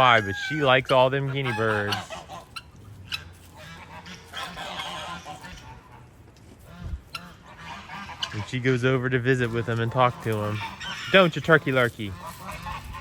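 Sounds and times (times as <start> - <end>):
guinea fowl and turkey calling: 0.0 - 13.0.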